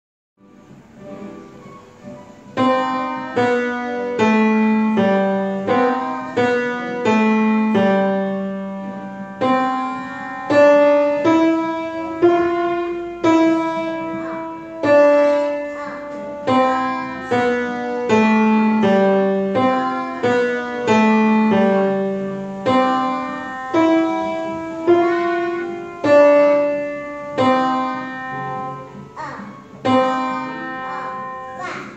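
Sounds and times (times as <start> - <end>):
grand piano slow tune: 0.4 - 31.9.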